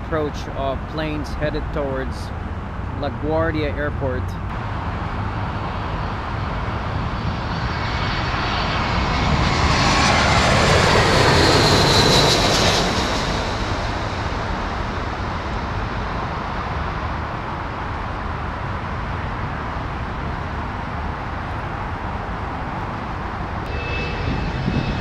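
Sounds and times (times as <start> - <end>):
jet airliner passing low: 0.0 - 25.0
traffic rumble: 0.0 - 25.0.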